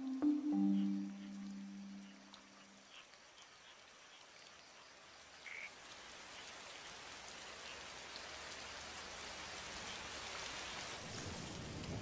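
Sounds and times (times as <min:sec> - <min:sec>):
rain hissing: 0:00.0 - 0:12.0
water dripping: 0:00.0 - 0:12.0.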